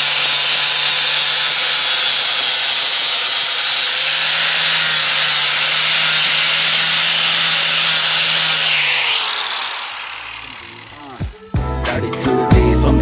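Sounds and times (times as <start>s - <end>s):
power tool hissing and humming: 0.0s - 11.6s.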